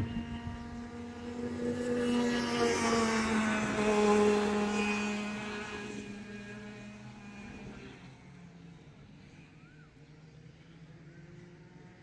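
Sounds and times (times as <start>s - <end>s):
go-kart engine passing: 0.0s - 12.0s.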